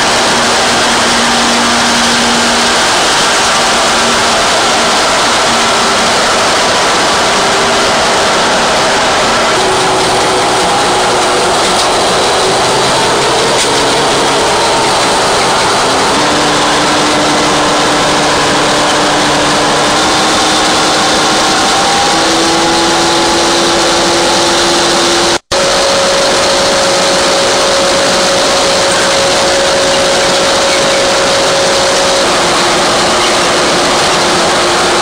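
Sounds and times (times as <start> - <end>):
diesel locomotive running: 0.0 - 35.0.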